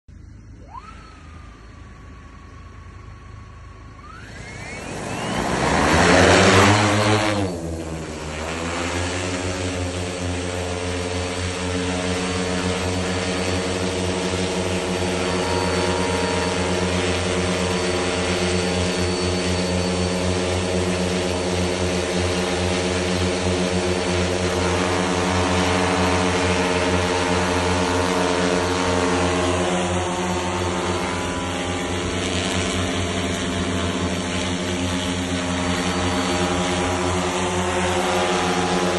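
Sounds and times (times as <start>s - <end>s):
drone propellers humming: 0.1s - 38.9s.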